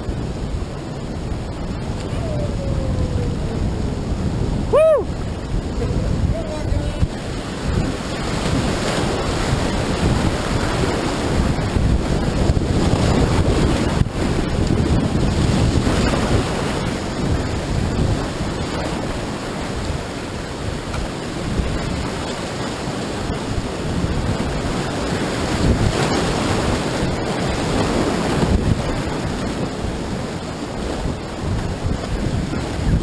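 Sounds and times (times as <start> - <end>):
whitewater roaring: 0.0 - 33.0
wind buffeting microphone: 0.0 - 33.0.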